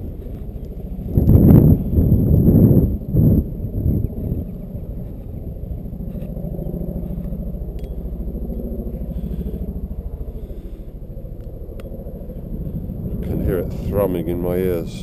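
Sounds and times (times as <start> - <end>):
helicopter rotor thrumming: 0.0 - 15.0.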